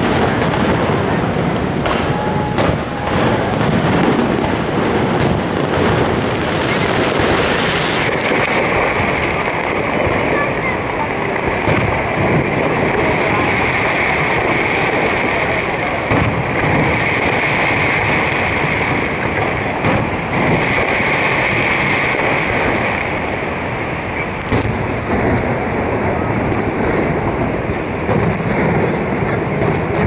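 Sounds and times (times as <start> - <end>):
firework bangs: 0.0 - 30.0
roar of falling water: 0.0 - 30.0.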